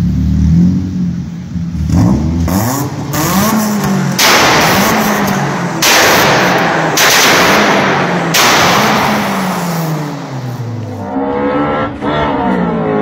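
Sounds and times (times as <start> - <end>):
car engine revving up and down: 0.0 - 13.0
car exhaust revving hard: 0.0 - 13.0.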